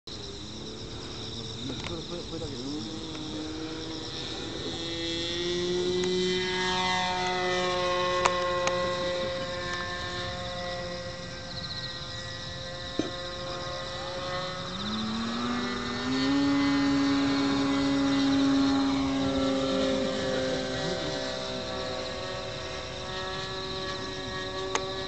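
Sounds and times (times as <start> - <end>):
model airplane engine droning: 0.1 - 25.0.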